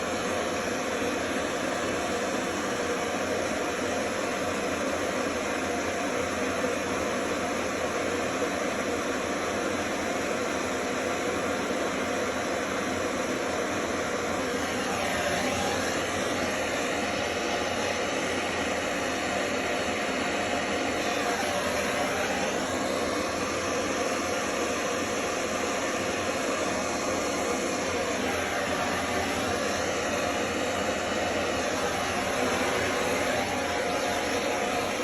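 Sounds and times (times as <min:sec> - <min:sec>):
gas torch hissing: 0:00.0 - 0:35.0.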